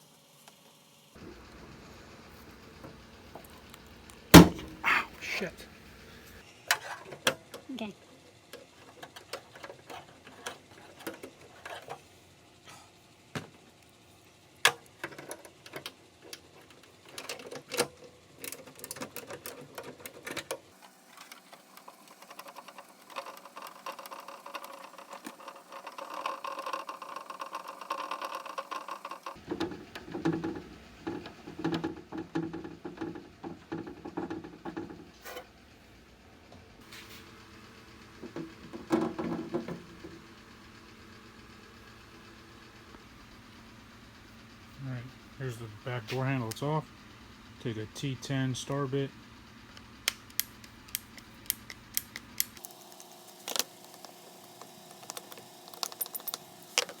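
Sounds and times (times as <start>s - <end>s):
dense steady rattle: 1.2s - 6.4s, 15.0s - 57.0s.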